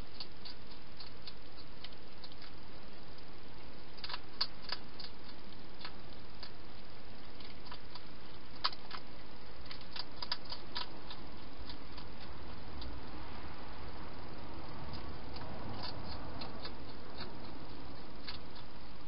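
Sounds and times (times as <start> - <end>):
hedgehog chewing clicks: 0.0 - 13.2, 14.1 - 19.0.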